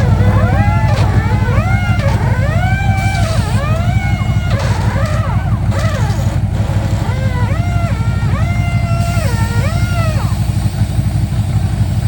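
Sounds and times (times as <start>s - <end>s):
steady low drone: 0.0s - 12.0s
truck engine revving hard: 0.0s - 12.0s.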